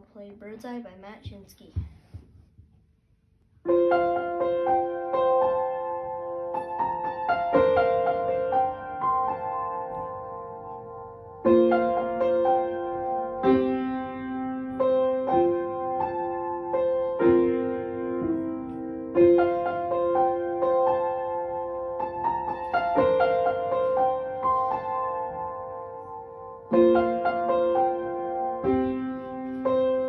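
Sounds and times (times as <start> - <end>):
slow piano melody: 3.6 - 30.0.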